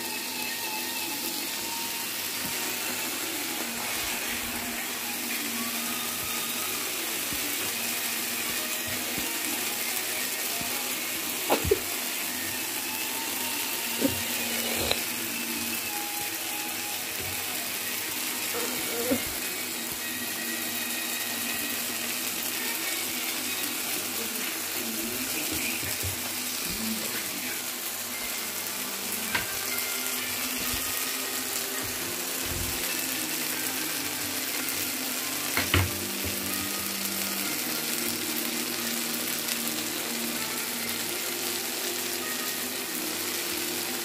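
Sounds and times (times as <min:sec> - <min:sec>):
food sizzling in a frying pan: 0:00.0 - 0:44.0.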